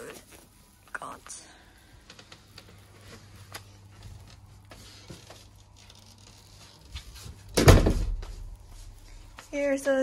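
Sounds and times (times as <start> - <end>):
plastic and foil bag crinkling: 0.0 - 10.0.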